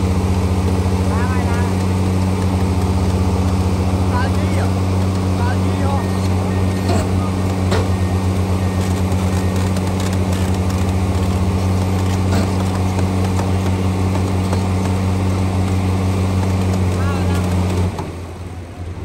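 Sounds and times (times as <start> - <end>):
heavy diesel engine humming: 0.0 - 19.0.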